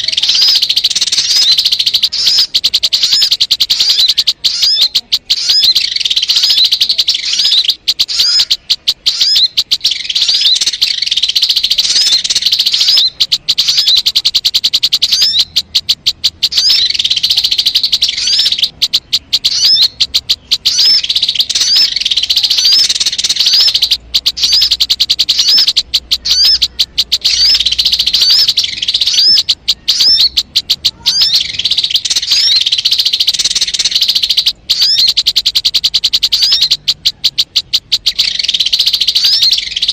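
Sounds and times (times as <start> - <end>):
rapid bird trilling chatter: 0.0 - 39.9
upward-curving bird notes: 0.0 - 39.9.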